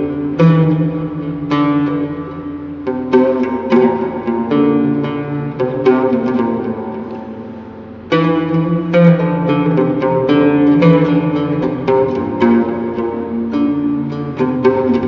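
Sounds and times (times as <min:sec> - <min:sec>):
oud melody plucked: 0:00.0 - 0:15.0.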